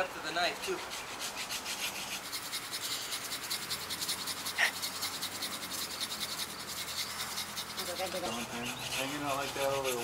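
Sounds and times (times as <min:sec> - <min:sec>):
hand saw cutting wood: 0:00.0 - 0:10.0.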